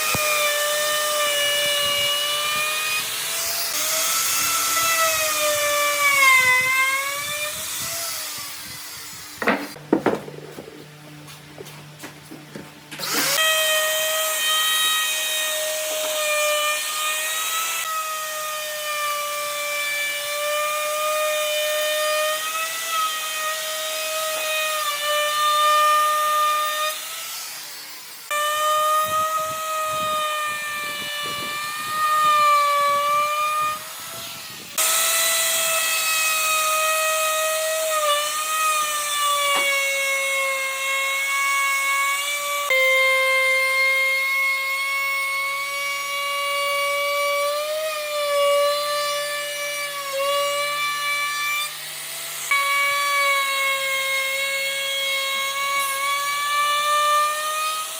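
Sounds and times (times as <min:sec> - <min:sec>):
electric power tool whining on wood: 0:00.0 - 0:10.9, 0:12.6 - 0:57.9.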